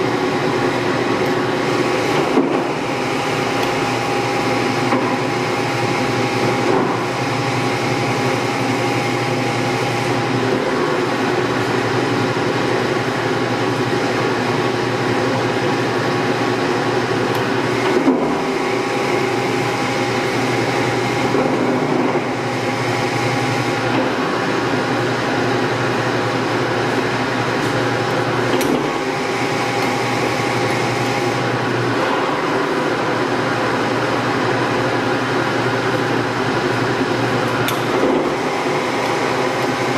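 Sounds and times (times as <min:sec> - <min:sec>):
lathe motor hum and gear whine: 0:00.0 - 0:39.9.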